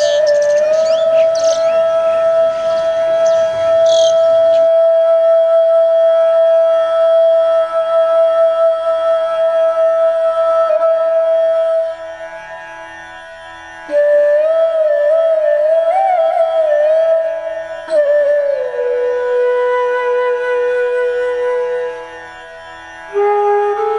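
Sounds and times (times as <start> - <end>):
flute playing held notes: 0.0 - 12.6, 13.9 - 23.9.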